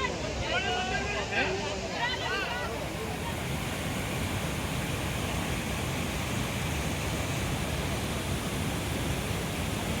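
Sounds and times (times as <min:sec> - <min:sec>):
fast-flowing water rushing: 0:00.0 - 0:10.0.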